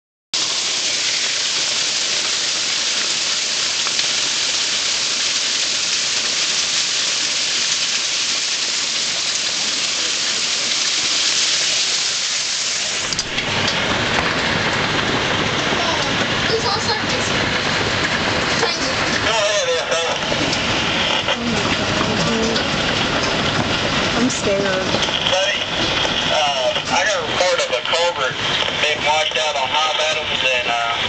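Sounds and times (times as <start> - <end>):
hail hissing on ground: 0.4 - 31.0.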